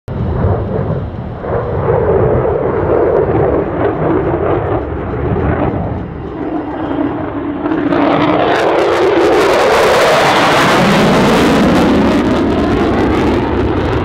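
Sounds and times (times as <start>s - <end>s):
jet engine rumble: 0.1s - 14.0s.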